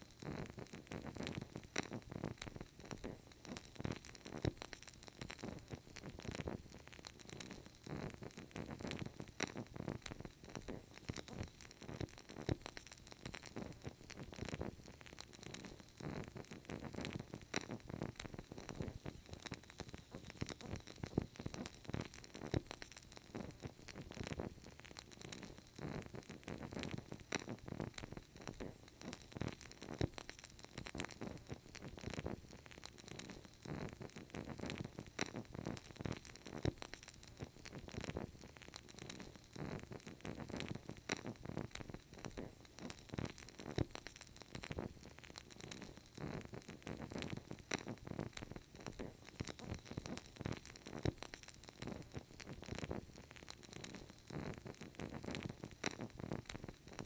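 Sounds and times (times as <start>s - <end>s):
candle crackling: 0.0s - 57.0s.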